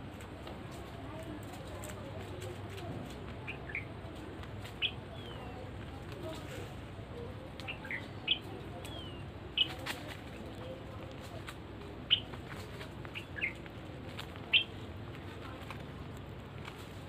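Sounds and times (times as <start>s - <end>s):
birds chirping: 0.7s - 17.0s.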